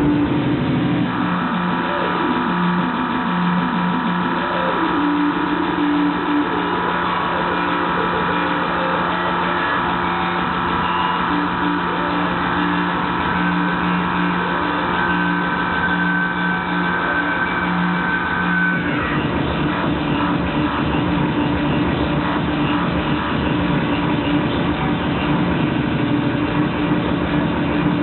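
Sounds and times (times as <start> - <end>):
industrial noise music drone: 0.0 - 28.0
noisy wash: 0.0 - 28.0.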